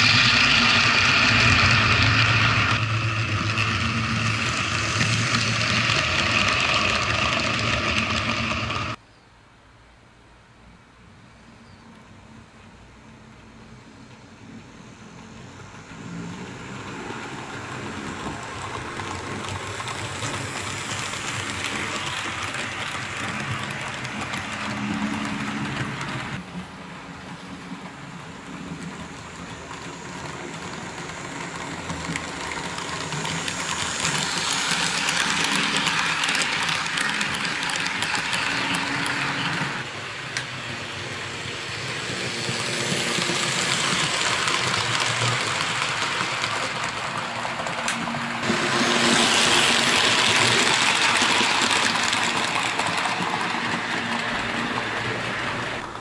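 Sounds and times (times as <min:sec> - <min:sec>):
model train wheels on rails: 0:00.0 - 0:09.0, 0:11.9 - 0:56.0.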